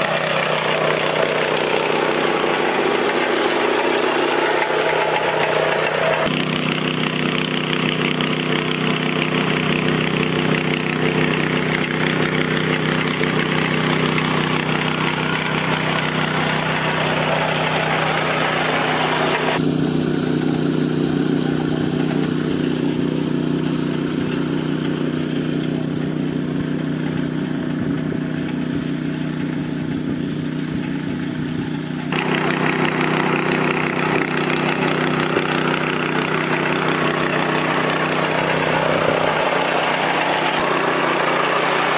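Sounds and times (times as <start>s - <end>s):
machine engine running: 0.0s - 41.9s.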